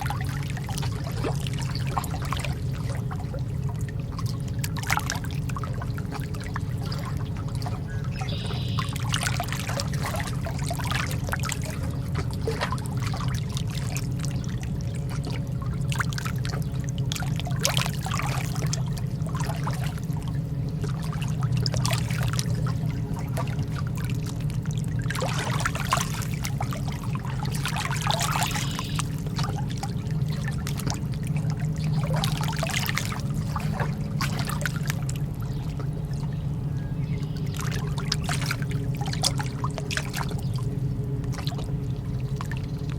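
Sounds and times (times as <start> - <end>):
lake water lapping: 0.0 - 42.9
low rumble: 0.0 - 42.9.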